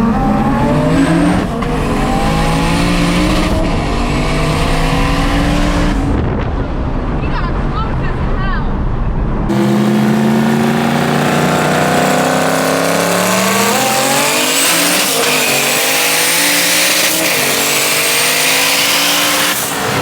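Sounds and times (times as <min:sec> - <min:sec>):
car engine running hard: 0:00.0 - 0:08.2, 0:08.8 - 0:20.0.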